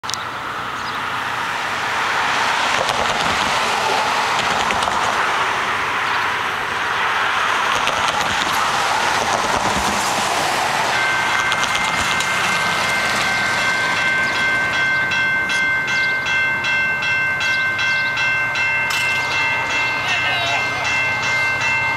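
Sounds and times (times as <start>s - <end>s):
rushing vehicle noise: 0.0s - 21.9s.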